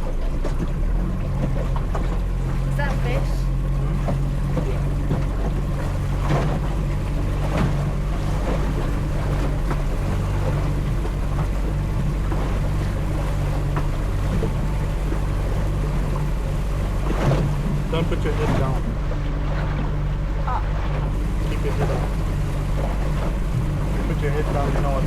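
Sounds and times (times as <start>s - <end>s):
boat motor running: 0.0s - 25.0s
water slapping hull: 0.0s - 25.0s.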